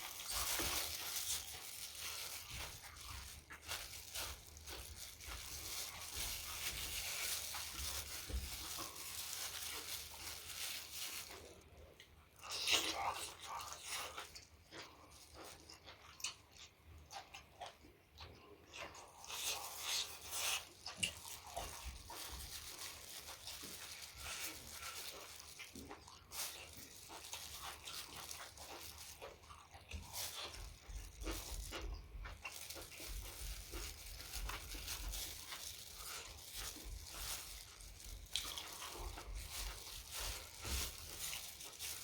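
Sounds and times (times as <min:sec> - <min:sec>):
chewing and mouth noises: 0:00.0 - 0:42.0.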